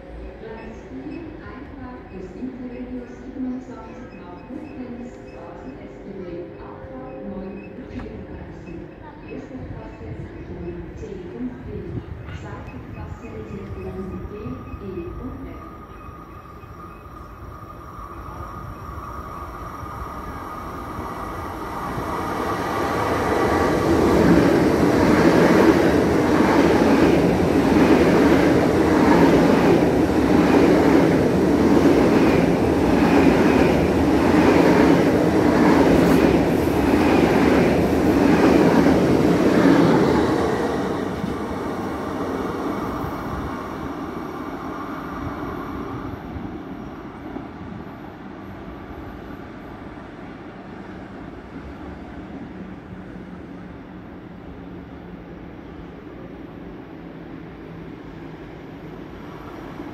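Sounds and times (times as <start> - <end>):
high-speed train passing: 0.0 - 59.9.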